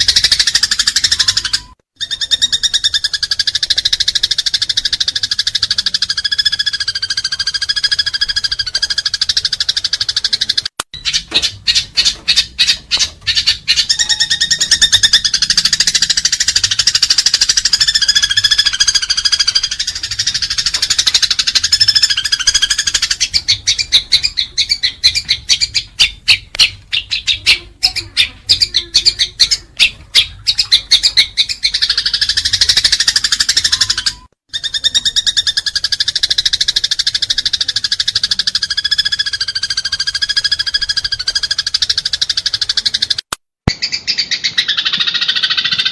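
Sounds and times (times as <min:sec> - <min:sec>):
sparrows chattering: 0:00.0 - 0:45.9.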